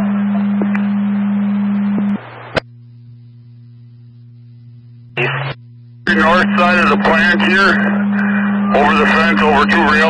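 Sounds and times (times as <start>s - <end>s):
radio hum with hiss: 0.0s - 10.0s.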